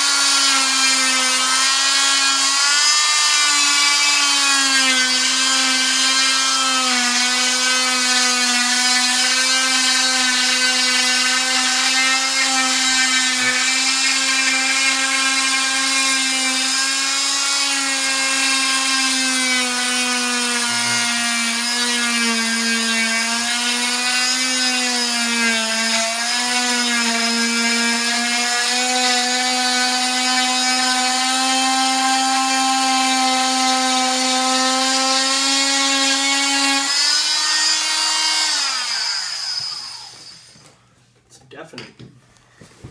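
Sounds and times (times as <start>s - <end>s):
cast saw whining: 0.0s - 40.8s.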